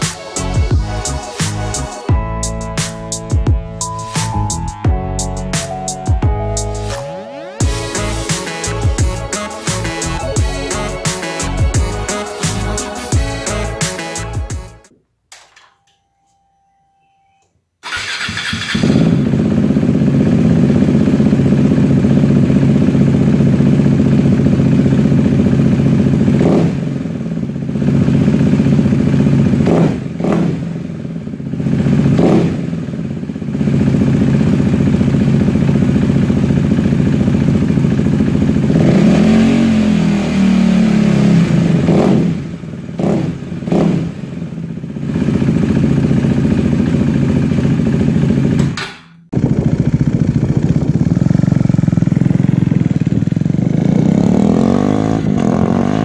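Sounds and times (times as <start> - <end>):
motorcycle engine idling and revving: 0.0 - 7.0, 7.6 - 14.8, 17.8 - 56.0.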